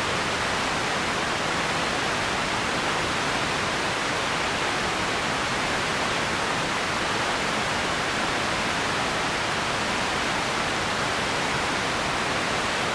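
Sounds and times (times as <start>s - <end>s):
steady ambience hiss: 0.0s - 12.9s.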